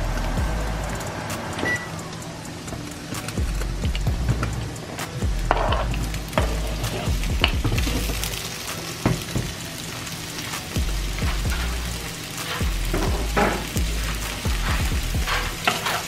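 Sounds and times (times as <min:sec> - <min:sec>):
sausages sizzling in a pan: 0:00.0 - 0:16.0.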